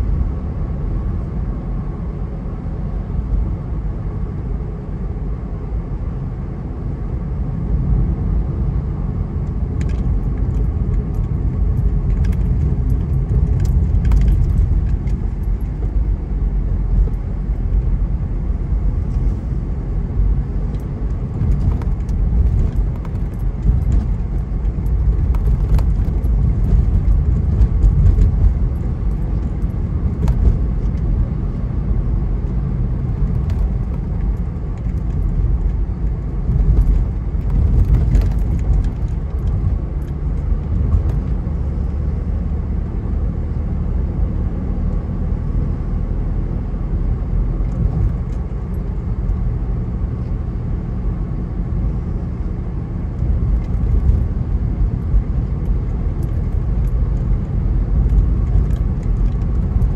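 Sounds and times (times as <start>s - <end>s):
car tyres and engine rumble: 0.0s - 59.9s.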